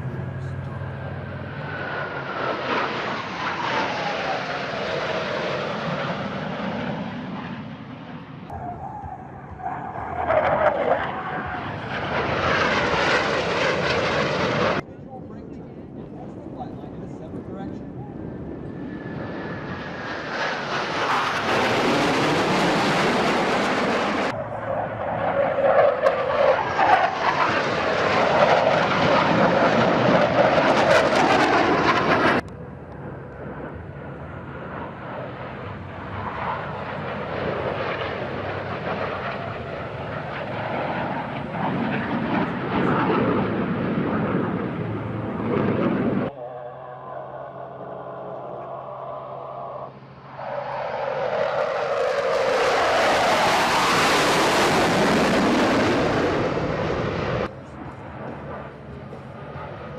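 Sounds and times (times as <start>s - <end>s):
fighter jet noise: 0.0s - 59.9s.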